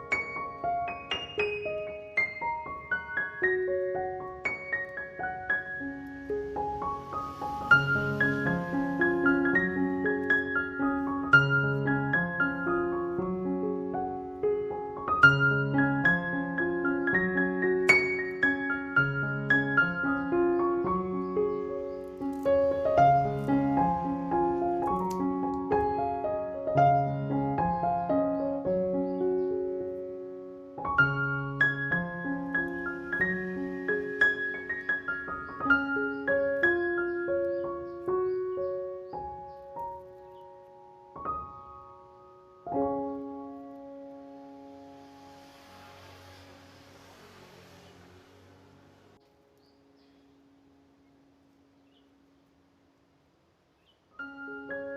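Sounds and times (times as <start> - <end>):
solo piano melody: 0.0 - 54.9.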